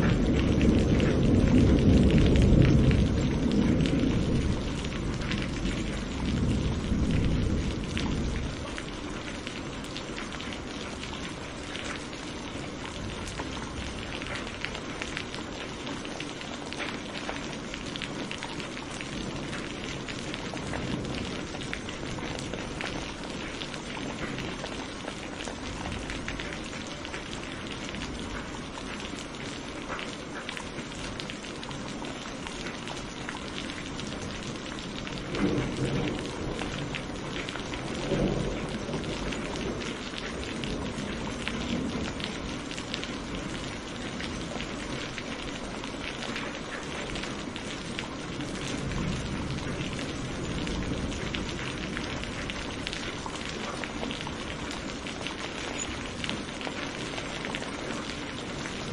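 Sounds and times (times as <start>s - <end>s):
low rumbles of thunder: 0.0s - 29.4s, 33.2s - 58.9s
steady rain falling: 0.0s - 58.9s.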